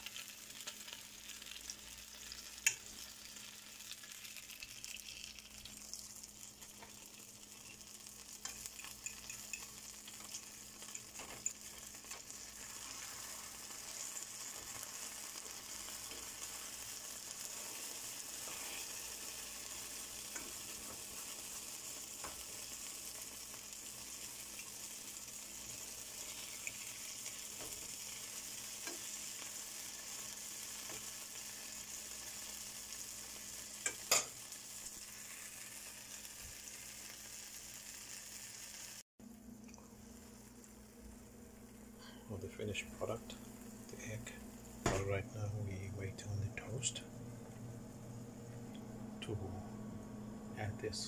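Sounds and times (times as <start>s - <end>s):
egg sizzling in oil: 0.0s - 39.1s, 39.7s - 42.4s.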